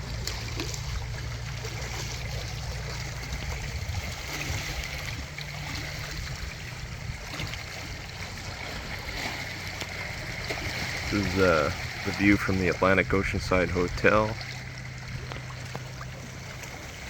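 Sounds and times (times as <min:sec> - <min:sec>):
water lapping against dock: 0:00.0 - 0:17.0.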